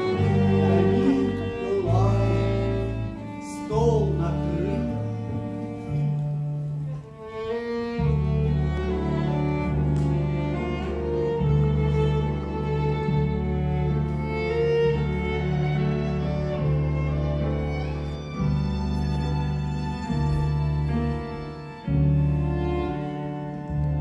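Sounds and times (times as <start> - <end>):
cello: 0.0 - 24.0
low bass notes: 0.0 - 24.0
violin: 0.0 - 24.0.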